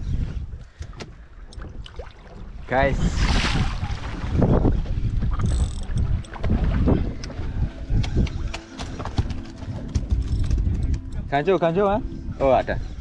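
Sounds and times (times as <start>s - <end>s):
wind gusting on microphone: 0.0s - 0.7s, 1.6s - 13.0s.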